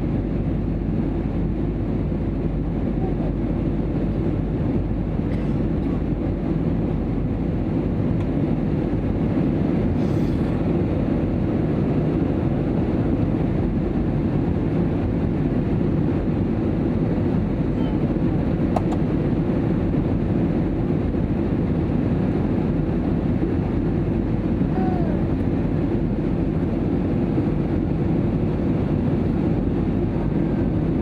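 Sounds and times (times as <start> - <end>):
airliner cabin engine and airflow noise: 0.0 - 31.0.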